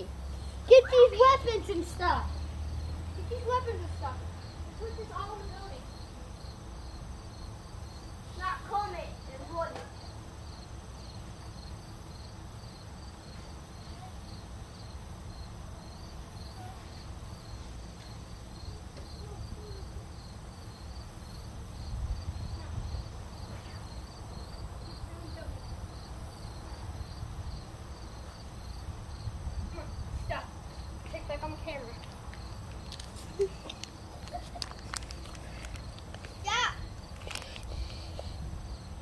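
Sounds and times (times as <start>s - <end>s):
cricket chirping: 0.0s - 39.0s.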